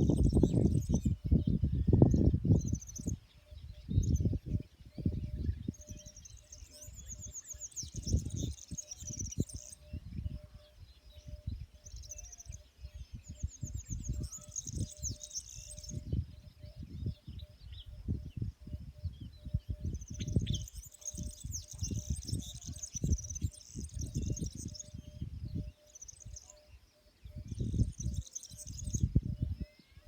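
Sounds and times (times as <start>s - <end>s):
songbirds trilling: 0.0s - 30.0s.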